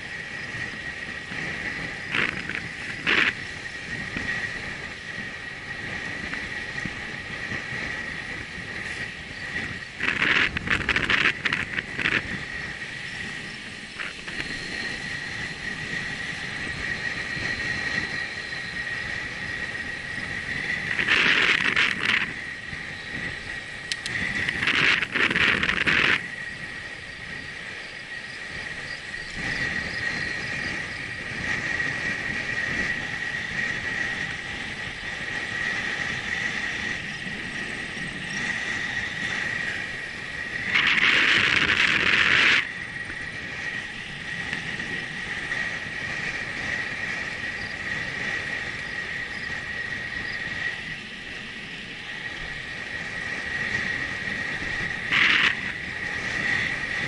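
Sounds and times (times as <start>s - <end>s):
bicycle tyres rolling on pavement: 0.0s - 57.0s
hissing rush: 0.0s - 57.0s
steady high whine: 0.0s - 57.0s
wind noise: 0.0s - 57.0s.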